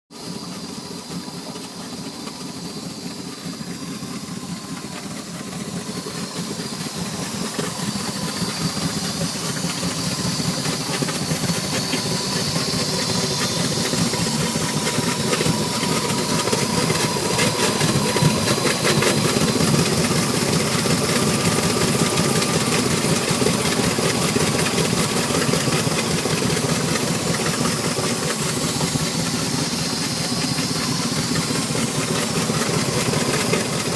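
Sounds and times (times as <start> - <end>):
boat engine idling: 0.2 - 33.9.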